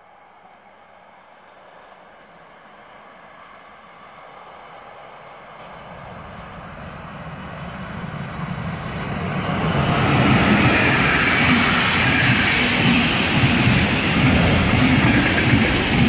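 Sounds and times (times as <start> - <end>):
electric locomotive passing: 0.0 - 16.0
train wheels rolling on rails: 0.7 - 16.0.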